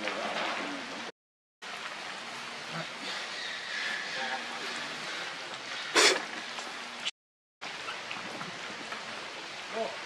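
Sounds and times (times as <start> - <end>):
rain pattering: 0.0 - 7.0, 7.6 - 10.0.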